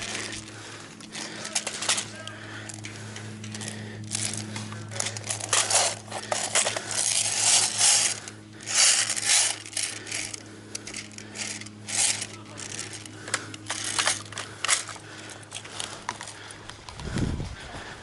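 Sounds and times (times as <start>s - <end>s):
rustling and scraping: 0.0s - 17.4s
steady low hum: 0.0s - 18.0s.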